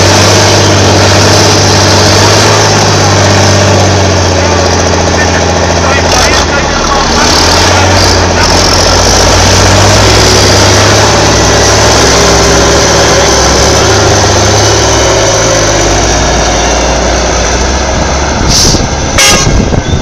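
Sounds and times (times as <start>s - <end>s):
truck diesel engine under load: 0.0s - 20.0s.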